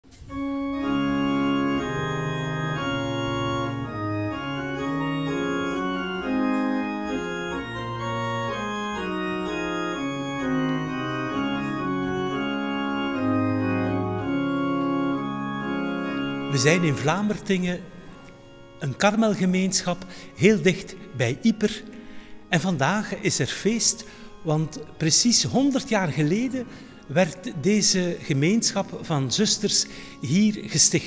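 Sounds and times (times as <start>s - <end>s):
organ playing held chords: 0.0s - 31.0s.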